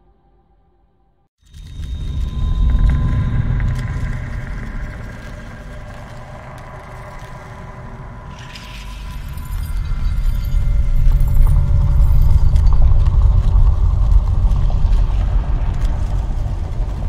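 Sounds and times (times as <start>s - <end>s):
deep rumbling drone: 0.0s - 17.0s.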